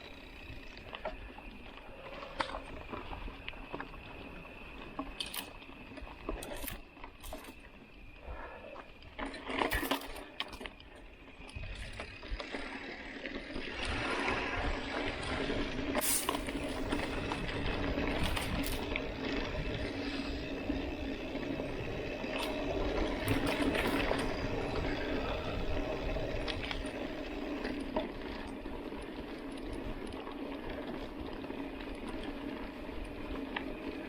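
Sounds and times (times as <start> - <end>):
bike clicking and rattling: 0.0 - 34.0
bike tyres rolling on dirt: 0.0 - 34.0.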